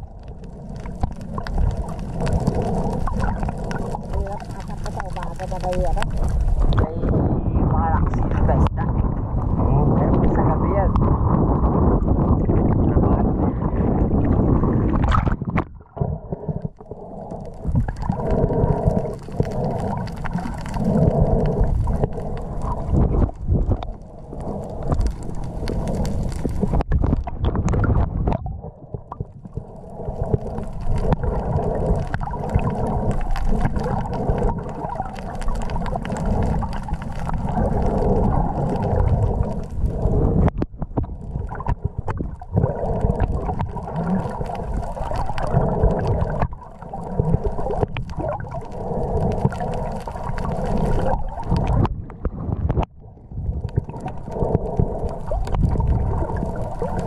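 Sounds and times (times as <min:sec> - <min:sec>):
muffled underwater water rumble: 0:00.0 - 0:57.0.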